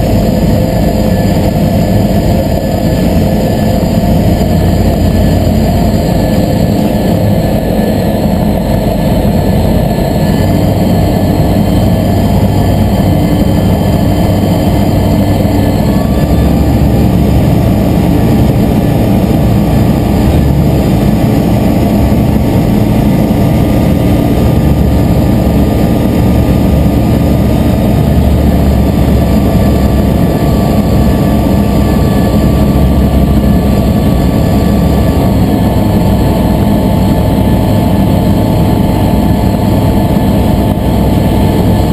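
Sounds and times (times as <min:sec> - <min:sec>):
aircraft engine droning: 0:00.0 - 0:41.9.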